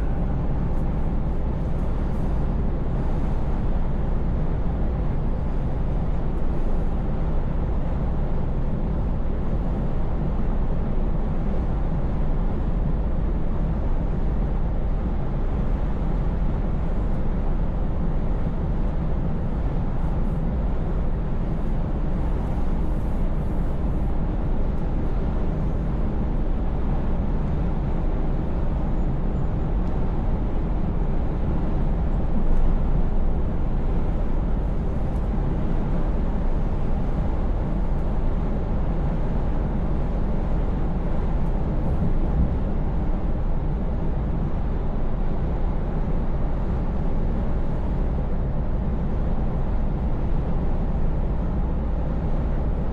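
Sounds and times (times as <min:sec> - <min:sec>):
road noise: 0:00.0 - 0:52.8.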